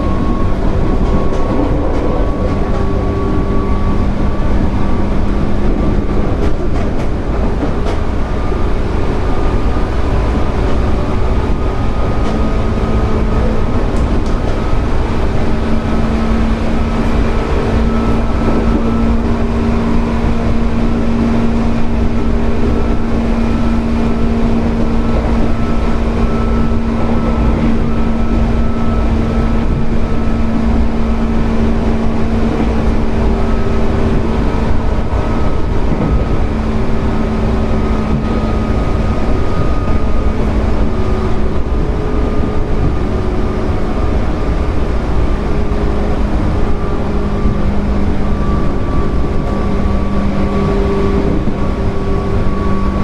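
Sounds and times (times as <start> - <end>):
electric train motor whine: 0.0 - 53.0
wheels rumbling on rail: 0.0 - 53.0.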